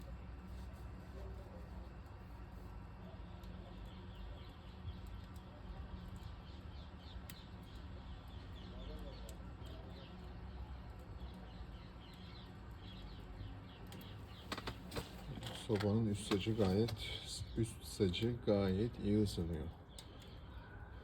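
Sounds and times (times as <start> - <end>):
small birds chirping: 2.9 - 21.0.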